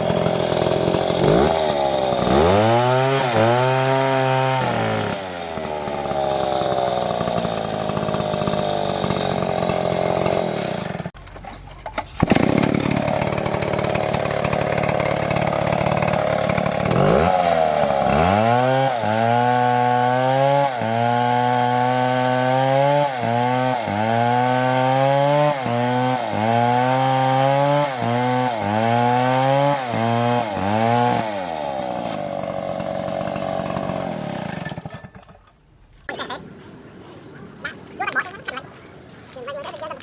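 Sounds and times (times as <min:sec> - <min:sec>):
chainsaw cutting wood: 0:00.0 - 0:11.2, 0:12.1 - 0:35.4, 0:36.1 - 0:40.0.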